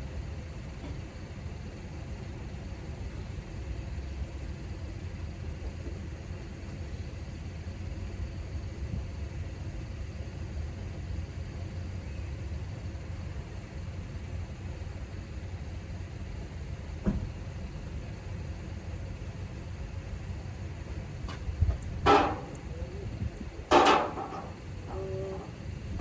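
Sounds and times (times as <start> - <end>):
motor vehicle rumble: 2.8 - 26.0.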